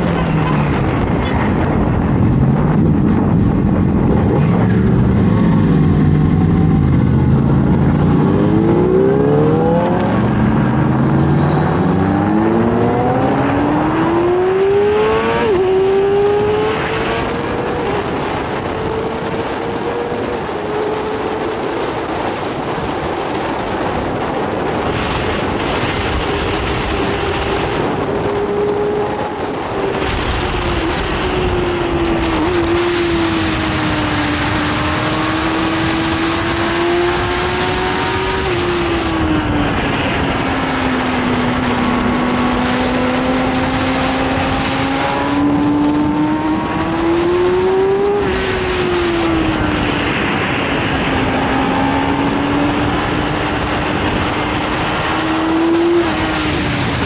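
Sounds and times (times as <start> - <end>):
motorcycle engine accelerating: 0.0 - 57.0
wind rushing: 0.0 - 57.0.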